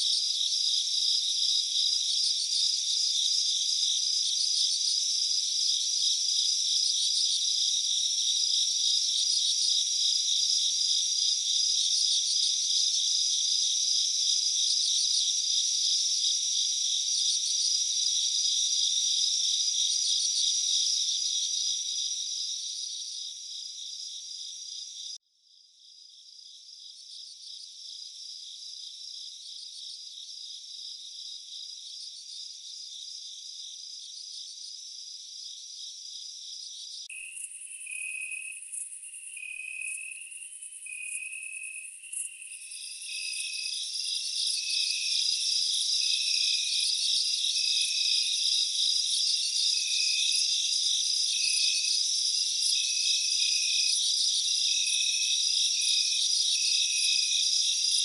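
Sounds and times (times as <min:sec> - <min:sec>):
crickets and insects chirping: 0:00.0 - 0:25.1, 0:26.1 - 0:58.0.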